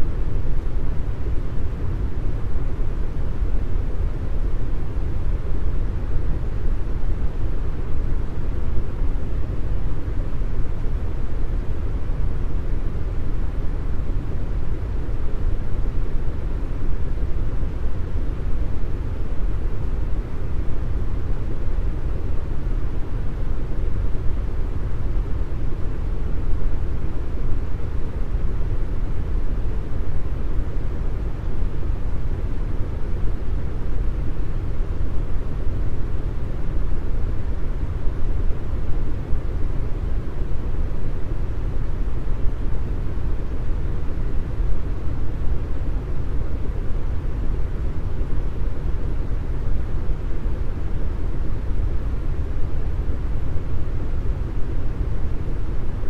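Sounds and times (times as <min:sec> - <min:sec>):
deep brown noise hiss: 0:00.0 - 0:56.0.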